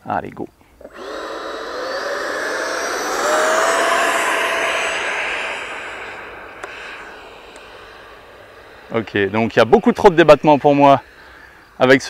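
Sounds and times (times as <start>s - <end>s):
electric jet fan whine: 0.8s - 11.2s.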